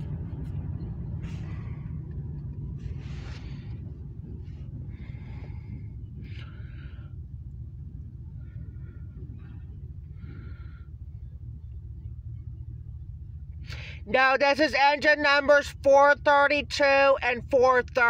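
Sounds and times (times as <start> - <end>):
diesel locomotive rumble: 0.0 - 18.0.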